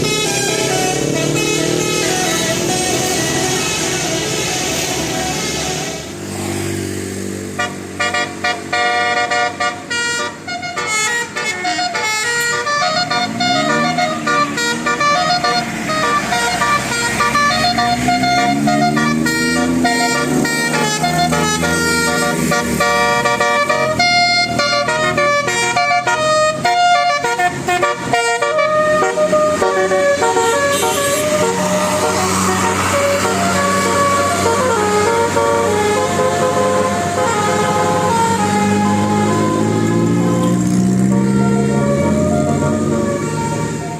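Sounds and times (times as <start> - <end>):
musical bus horn tune: 0.0 - 6.2, 7.6 - 43.9.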